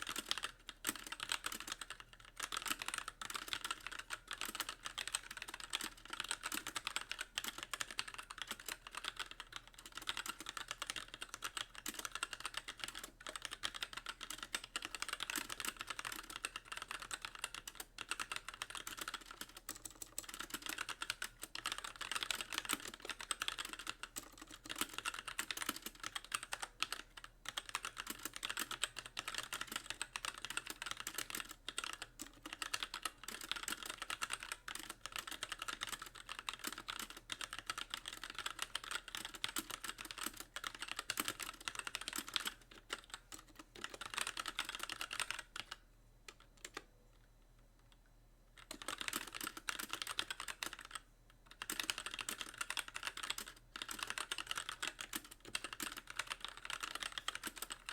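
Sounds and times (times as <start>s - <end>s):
fast mechanical keyboard typing: 0.0s - 46.9s, 48.6s - 57.9s.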